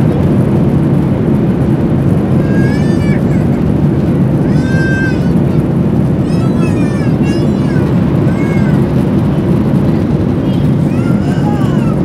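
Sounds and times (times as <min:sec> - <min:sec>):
airplane cabin roar: 0:00.0 - 0:12.0.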